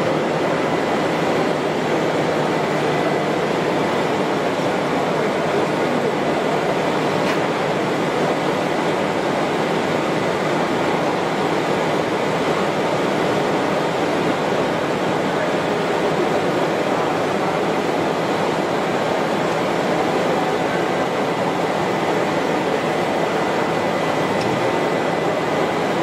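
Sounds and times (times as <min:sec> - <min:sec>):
steady machinery noise: 0:00.0 - 0:26.0.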